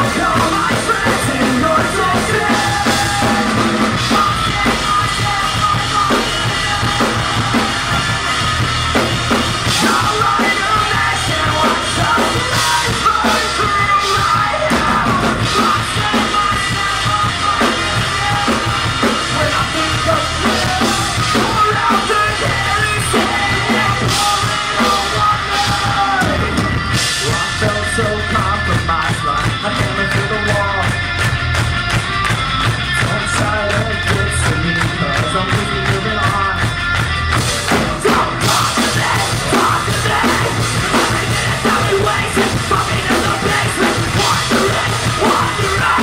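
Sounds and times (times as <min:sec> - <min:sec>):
bass guitar: 0:00.0 - 0:46.0
distorted electric guitars: 0:00.0 - 0:46.0
drum kit playing: 0:00.0 - 0:46.0.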